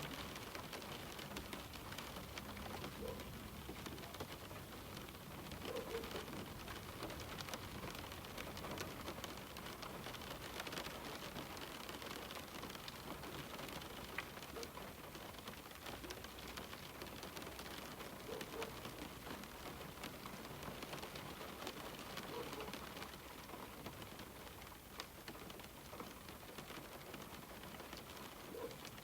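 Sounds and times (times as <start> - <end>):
rain on a window: 0.0 - 29.0.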